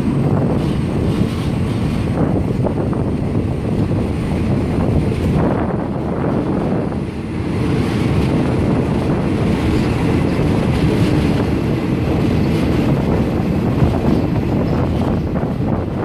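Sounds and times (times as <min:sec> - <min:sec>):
train rumbling on track: 0:00.0 - 0:16.0
wind buffeting microphone: 0:00.0 - 0:16.0.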